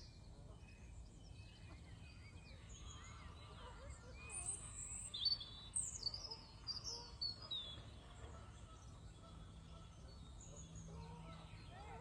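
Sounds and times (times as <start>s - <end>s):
low lakeside ambient hum: 0.0s - 12.0s.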